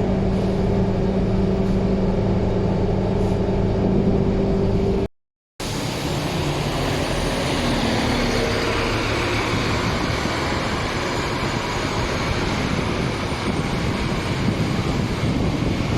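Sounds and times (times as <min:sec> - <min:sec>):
bus engine running: 0:00.0 - 0:15.9
road noise: 0:00.0 - 0:15.9.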